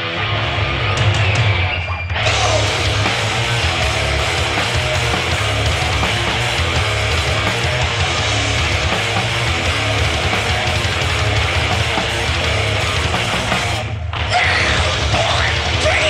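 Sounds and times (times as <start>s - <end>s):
loud live punk band playing: 0.0s - 16.0s.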